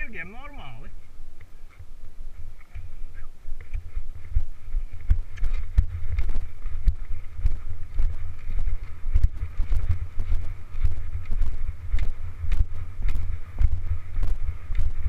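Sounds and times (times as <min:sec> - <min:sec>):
horse hoofbeats on dirt: 0:00.0 - 0:15.0
wind buffeting microphone: 0:00.0 - 0:15.0.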